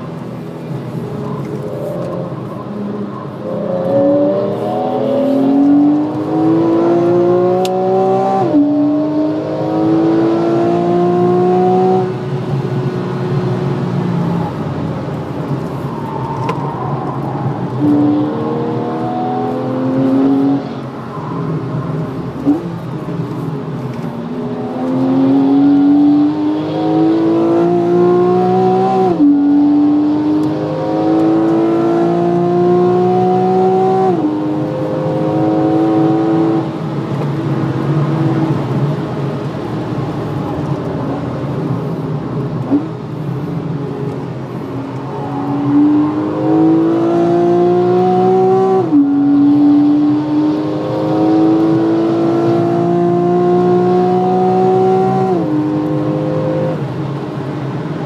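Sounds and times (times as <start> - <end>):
car engine accelerating: 0.3 - 57.8.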